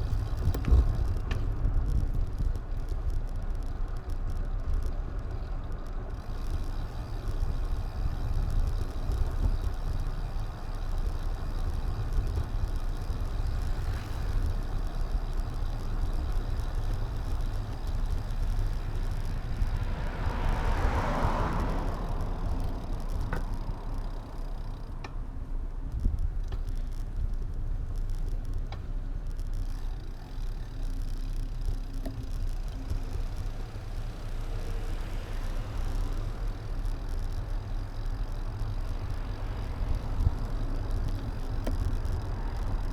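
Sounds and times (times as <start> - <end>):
wind and road rumble: 0.0 - 42.9.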